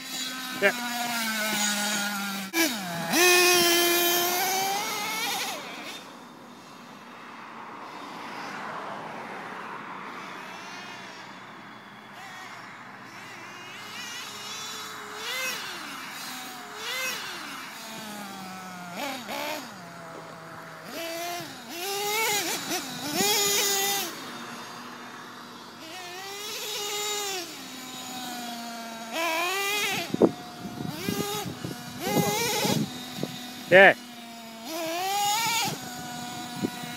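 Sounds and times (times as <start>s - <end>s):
small two-stroke engine revving: 0.0s - 36.9s.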